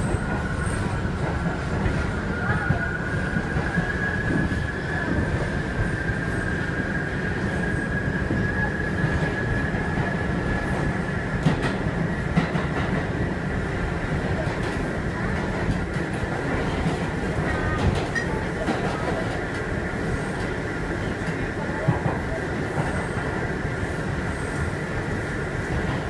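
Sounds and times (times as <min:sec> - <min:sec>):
subway car rumble and motor howl: 0:00.0 - 0:26.0.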